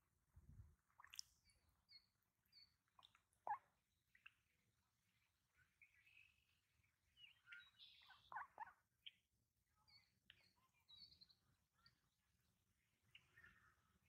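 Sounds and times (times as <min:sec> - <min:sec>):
faint bird chirps: 0:00.5 - 0:14.0.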